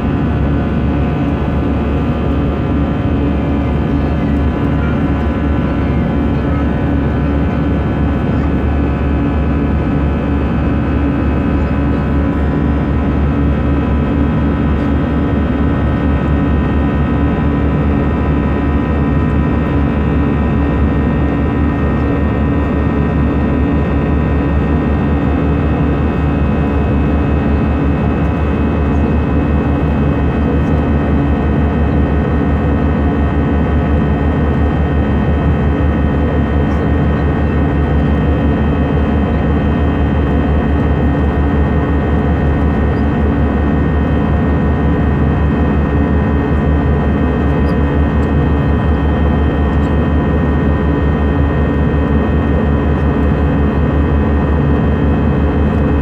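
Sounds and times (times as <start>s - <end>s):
jet engines droning in cabin: 0.0s - 56.0s.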